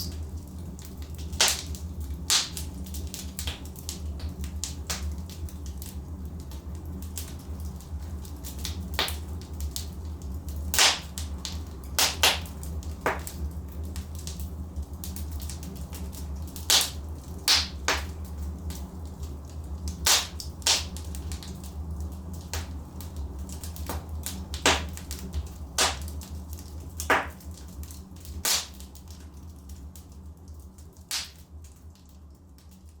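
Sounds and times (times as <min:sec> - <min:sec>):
flames rumbling: 0:00.0 - 0:33.0
wood fire crackling: 0:00.0 - 0:33.0.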